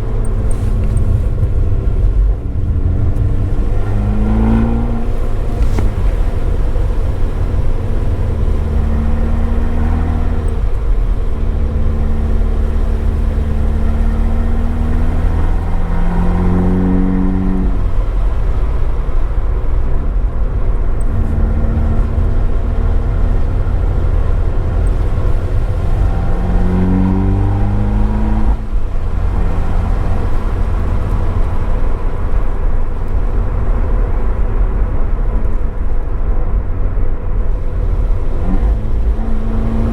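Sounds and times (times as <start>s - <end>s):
car engine revving: 0.0s - 39.9s
road and rain noise: 0.0s - 39.9s.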